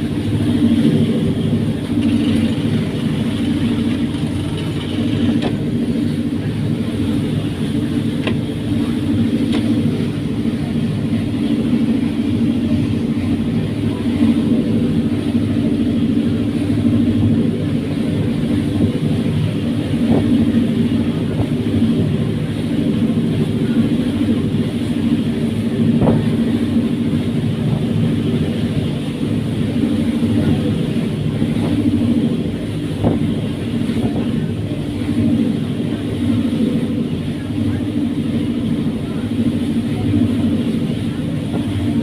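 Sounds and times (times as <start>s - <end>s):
ferry engines droning: 0.0s - 42.0s.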